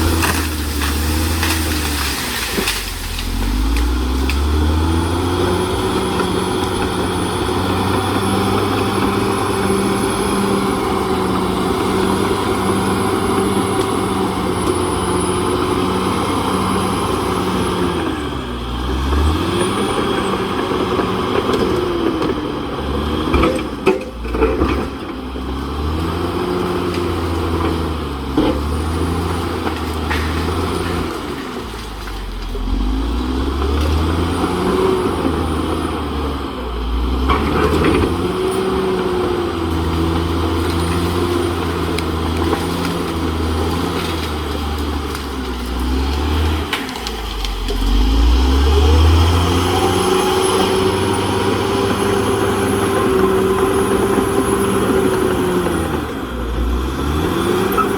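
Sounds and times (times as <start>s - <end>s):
bulldozer diesel engine working: 0.0s - 57.9s.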